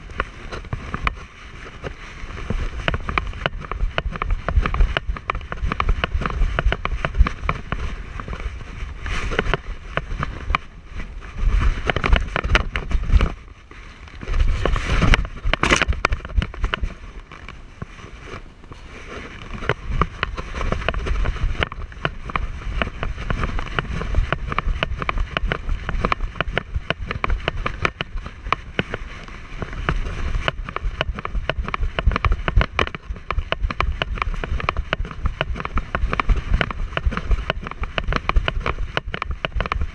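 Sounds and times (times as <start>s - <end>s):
rapid rustling and clicking: 0.0s - 39.9s
wind rumble on camera: 0.0s - 39.9s.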